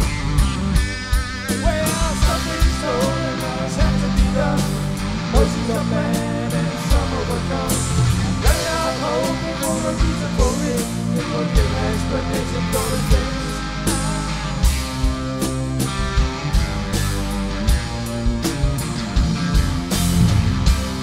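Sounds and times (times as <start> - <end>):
rock music: 0.0 - 21.0.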